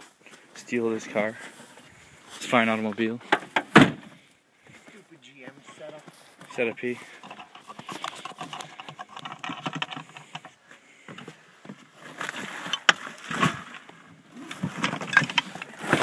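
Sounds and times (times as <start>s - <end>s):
items rustling and clattering: 1.3s - 16.0s.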